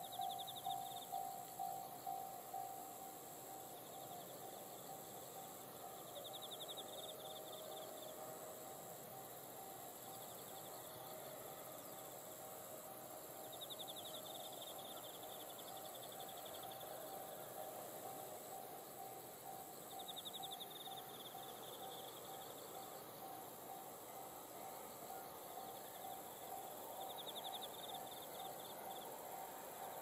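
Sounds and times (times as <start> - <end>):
insects trilling: 0.0 - 30.0
railway crossing alarm ringing: 0.0 - 30.0.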